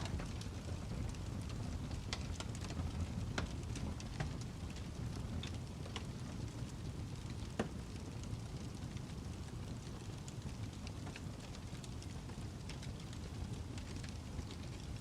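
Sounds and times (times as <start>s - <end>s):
fire popping and crackling: 0.0s - 15.0s
fire rumbling: 0.0s - 15.0s.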